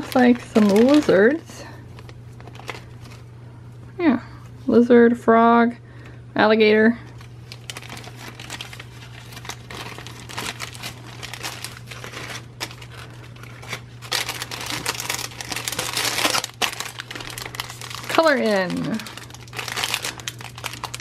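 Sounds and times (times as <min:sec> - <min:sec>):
plastic bags crinkling: 0:00.0 - 0:03.3, 0:07.1 - 0:21.0
low electrical hum: 0:00.0 - 0:21.0.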